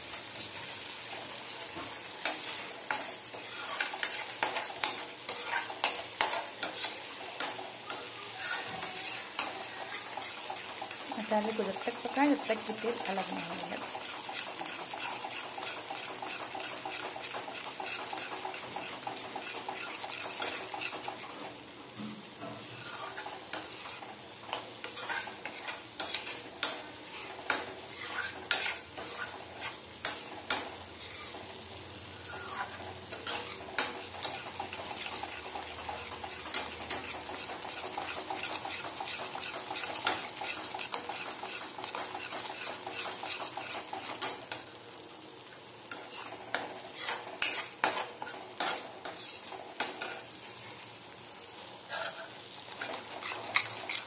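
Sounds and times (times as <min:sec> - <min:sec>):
frying sizzle: 0:00.0 - 0:54.0
spoon scraping a steel pan: 0:01.8 - 0:21.4, 0:22.5 - 0:31.6, 0:32.2 - 0:44.4, 0:45.9 - 0:50.3, 0:51.9 - 0:54.0.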